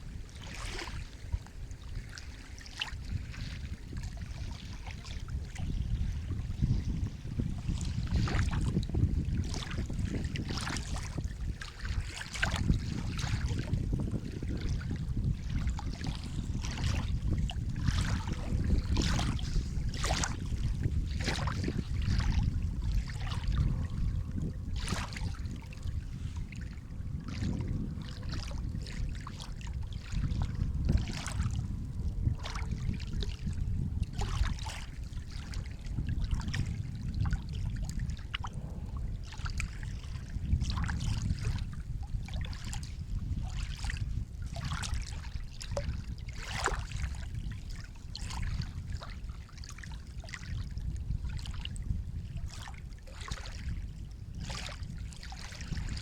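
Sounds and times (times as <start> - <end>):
low rumble of surf: 0.0 - 56.0
sea water lapping and splashing: 0.0 - 56.0.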